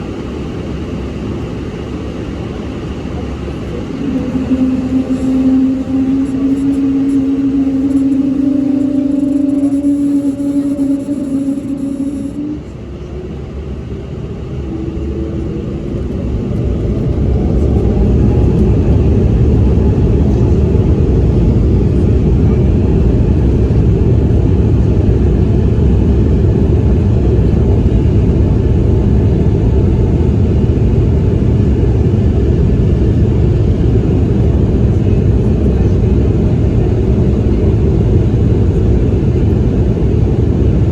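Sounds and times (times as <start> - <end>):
jet engine whine rising: 0.0 - 40.9
loud jet engine rumble: 0.0 - 40.9.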